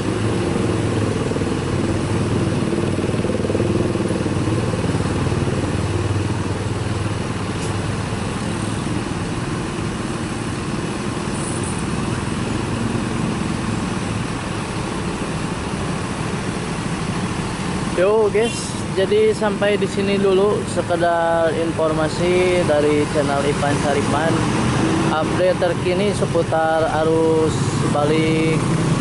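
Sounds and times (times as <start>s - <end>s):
traffic engines idling: 0.0s - 29.0s.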